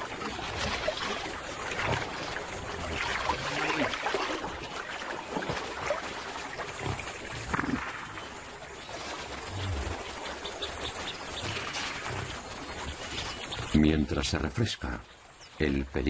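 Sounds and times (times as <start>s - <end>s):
water sloshing and splashing: 0.0s - 15.8s.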